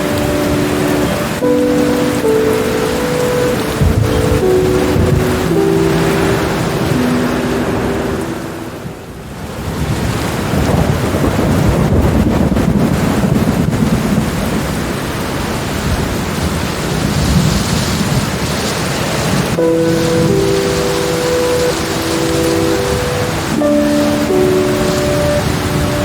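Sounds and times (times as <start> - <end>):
rolling thunder: 0.0 - 8.8, 9.5 - 26.0
steady rain: 0.0 - 26.0.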